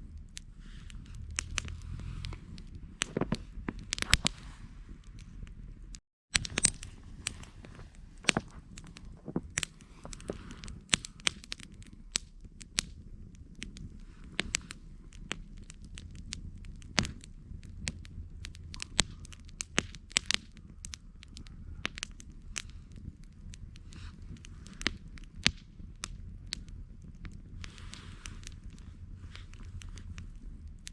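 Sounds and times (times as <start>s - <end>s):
campfire wood crackling and popping: 0.0s - 30.9s
low rush of flames: 0.0s - 30.9s.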